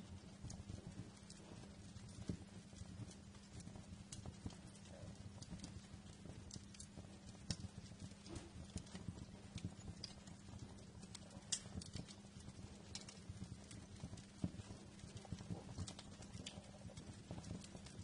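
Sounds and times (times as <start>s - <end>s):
wood fire crackling: 0.0s - 18.0s
fire pops and snaps: 0.2s - 18.0s.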